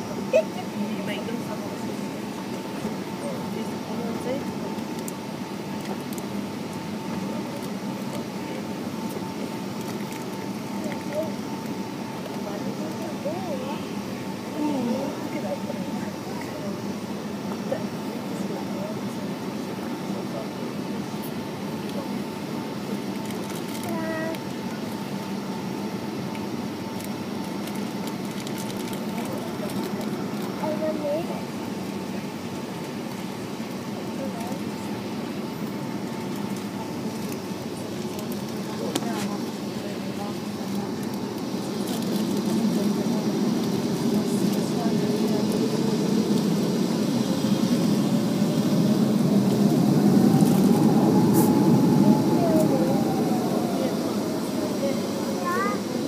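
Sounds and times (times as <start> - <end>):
airliner cabin hum: 0.0 - 56.0
faint engine whine: 0.0 - 56.0.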